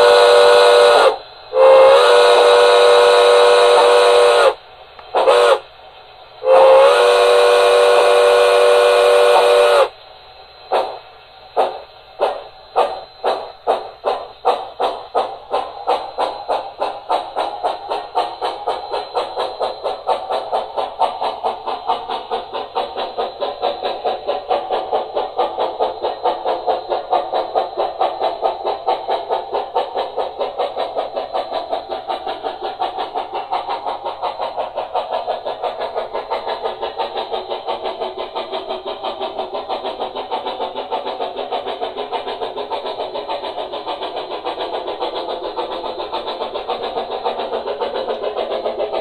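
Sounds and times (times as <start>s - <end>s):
model steam locomotive chuffing: 0.0s - 49.0s.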